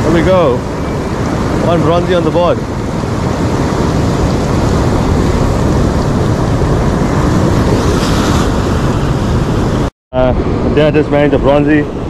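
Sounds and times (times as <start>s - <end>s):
surf washing on shore: 0.0s - 12.0s
wind buffeting microphone: 0.0s - 12.0s.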